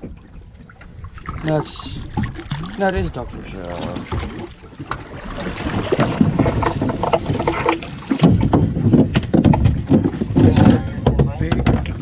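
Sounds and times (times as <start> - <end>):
knocks and clatters on boat: 0.0 - 12.0
water splashing against boat: 0.0 - 12.0.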